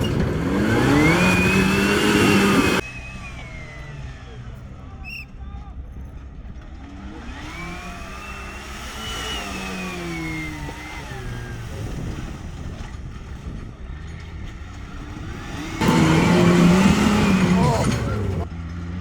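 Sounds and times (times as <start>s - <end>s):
off-road vehicle engine revving: 0.0s - 5.1s, 6.6s - 19.0s.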